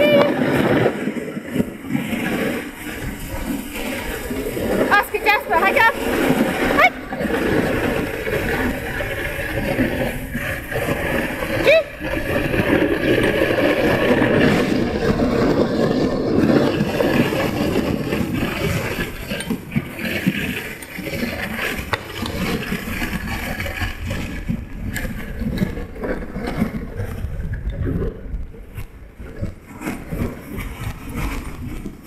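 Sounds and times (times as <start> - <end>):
sled runners scraping on snow: 0.0 - 32.0
wind on microphone: 0.0 - 32.0.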